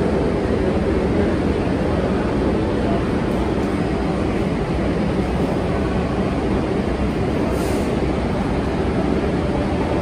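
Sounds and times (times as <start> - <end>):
subway train rumbling: 0.0 - 10.0.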